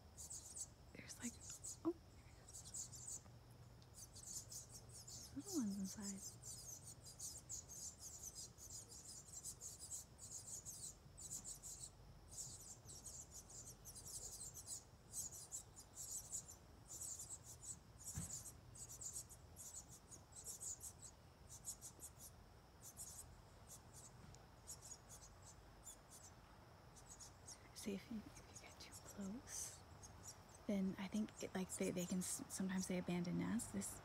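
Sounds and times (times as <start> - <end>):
baby birds chirping: 0.1 - 34.0.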